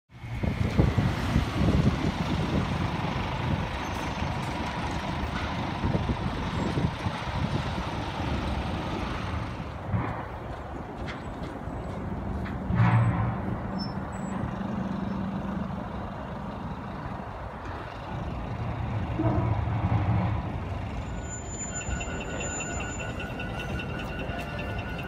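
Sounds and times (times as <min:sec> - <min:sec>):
bus diesel engines: 0:00.1 - 0:25.0.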